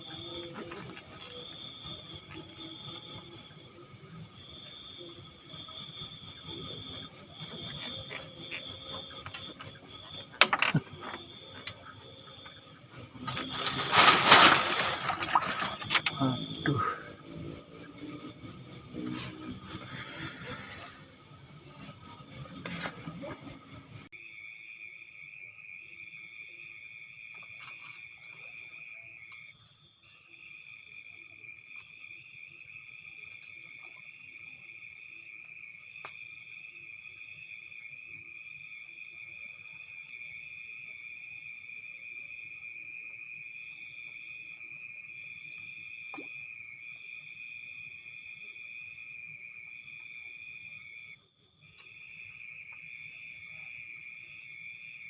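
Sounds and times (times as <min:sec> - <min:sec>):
insect steady trill: 0:00.0 - 0:55.0
insects pulsing high chirp: 0:00.0 - 0:55.0.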